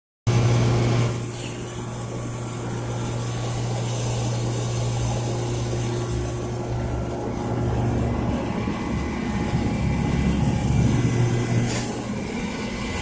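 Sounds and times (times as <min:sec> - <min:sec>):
compressor low hum: 0:00.3 - 0:13.0
heat pump hiss: 0:00.3 - 0:13.0.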